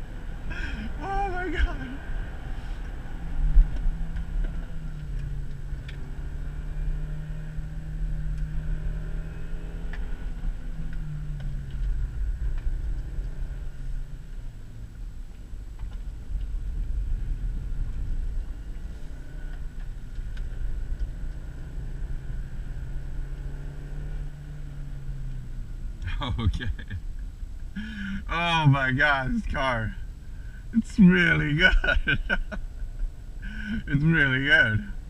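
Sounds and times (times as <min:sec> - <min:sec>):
car engine driving: 0:00.0 - 0:35.0
road and tyre rumble: 0:00.0 - 0:35.0.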